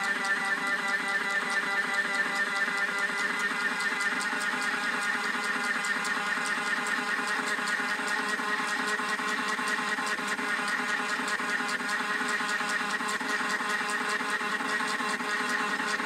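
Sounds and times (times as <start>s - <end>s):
small electric motor whirring: 0.0s - 16.0s.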